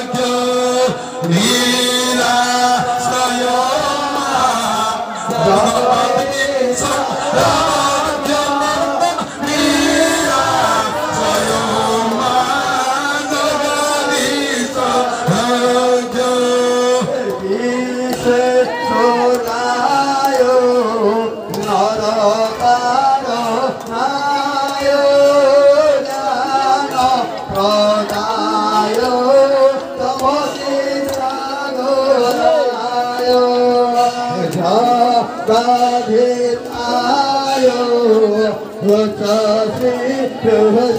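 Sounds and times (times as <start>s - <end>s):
man singing: 0.0s - 40.9s.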